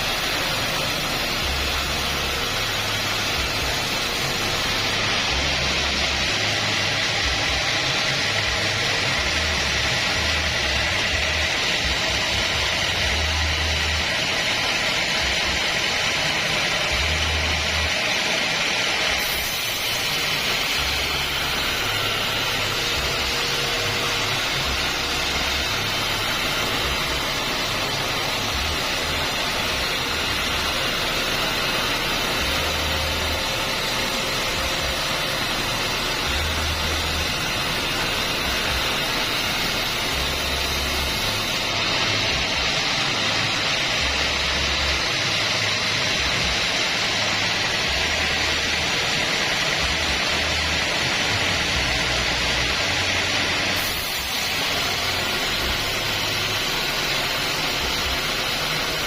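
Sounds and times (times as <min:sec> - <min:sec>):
band sawmill sawing wood: 0:00.0 - 0:59.0.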